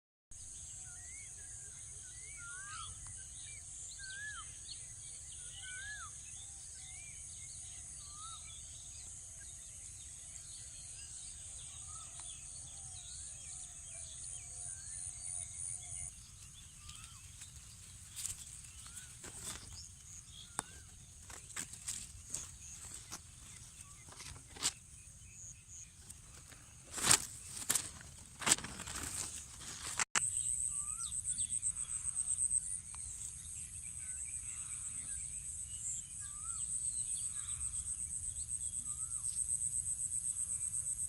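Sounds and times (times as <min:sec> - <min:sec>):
birds chirping and whistling: 0:00.8 - 0:39.4.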